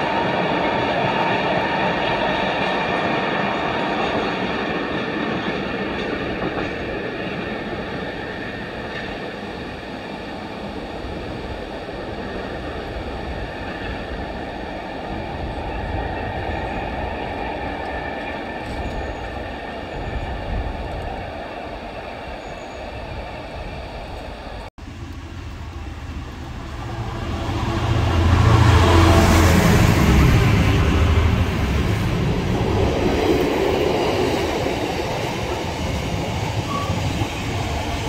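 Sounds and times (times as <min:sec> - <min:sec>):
train rumbling along track: 0:00.0 - 0:38.0.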